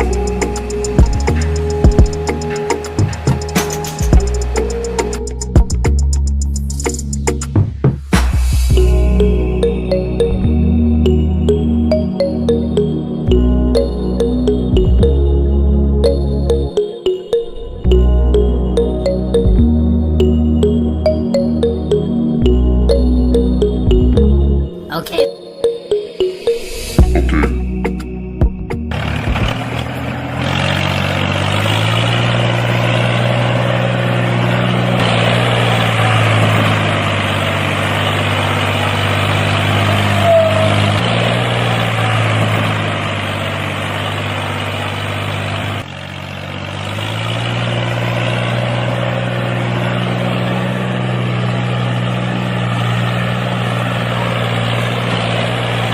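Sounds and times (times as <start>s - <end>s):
engine running steadily: 0.0s - 24.7s, 27.0s - 55.9s.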